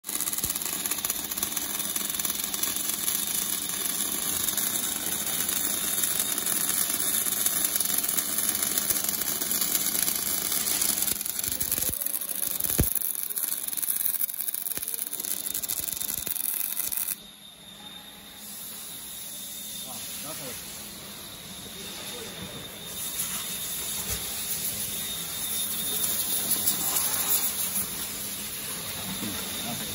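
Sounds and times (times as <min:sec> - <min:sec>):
welding arc sizzling: 0:00.0 - 0:17.3, 0:18.4 - 0:29.9.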